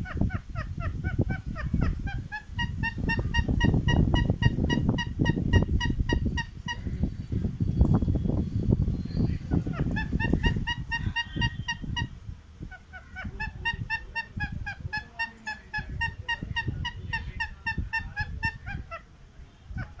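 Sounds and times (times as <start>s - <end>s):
parakeet squawking: 0.0s - 7.0s, 9.4s - 12.1s, 12.7s - 19.1s.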